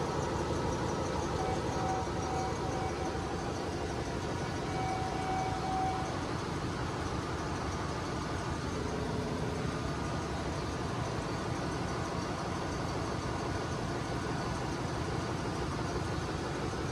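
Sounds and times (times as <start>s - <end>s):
faint steady tones: 0.0s - 16.9s
machinery droning: 0.0s - 16.9s.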